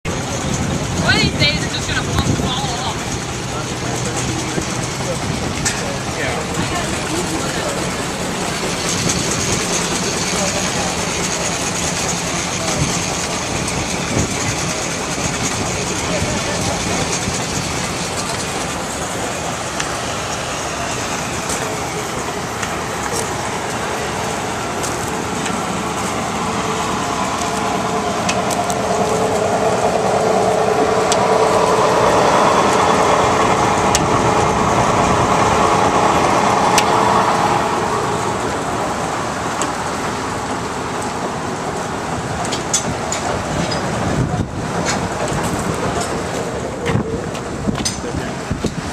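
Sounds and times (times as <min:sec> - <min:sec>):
sawmill running: 0:00.0 - 0:48.9
saw blade whine: 0:00.1 - 0:40.6.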